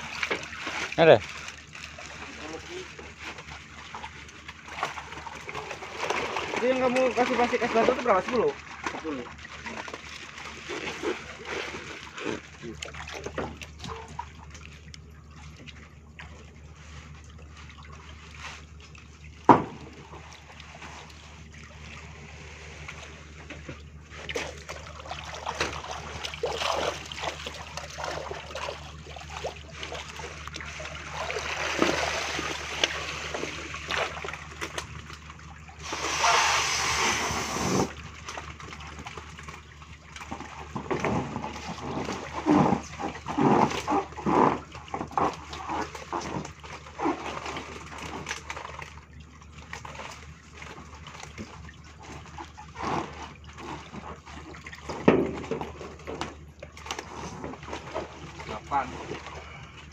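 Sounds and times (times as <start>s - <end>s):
low hum: 0.0s - 59.9s
water splashing and sloshing: 0.0s - 59.9s.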